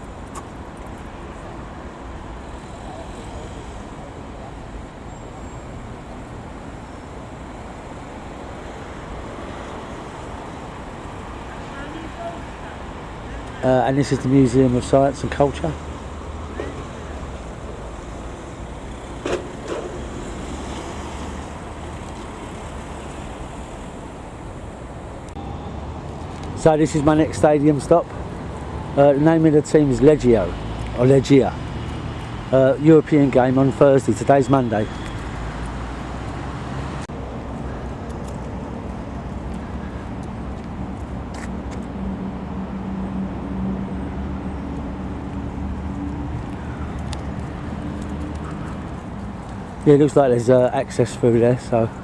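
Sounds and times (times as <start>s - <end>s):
passing vehicle hum: 0.0s - 52.0s
traffic rumble: 0.0s - 52.0s.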